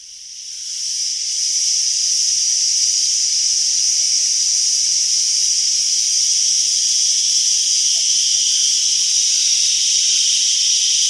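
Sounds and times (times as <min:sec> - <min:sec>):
insect chorus high-pitched buzz: 0:00.0 - 0:11.0.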